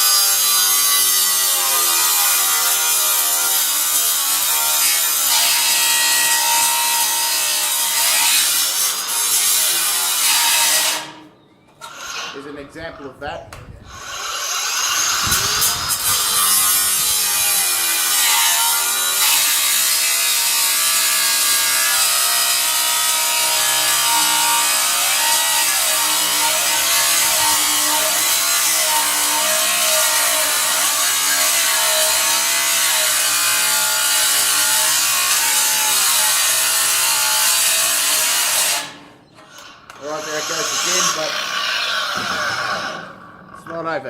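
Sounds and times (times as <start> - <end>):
angle grinder grinding metal: 0.0 - 11.2, 11.8 - 12.7, 13.8 - 44.0.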